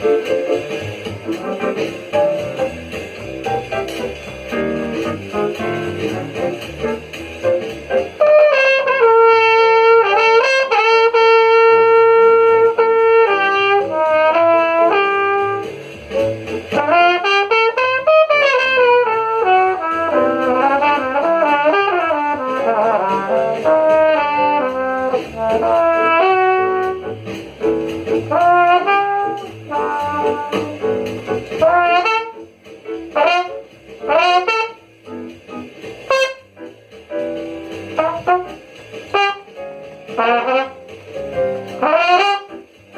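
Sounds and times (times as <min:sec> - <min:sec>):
jazz brass solo: 0:00.0 - 0:42.9.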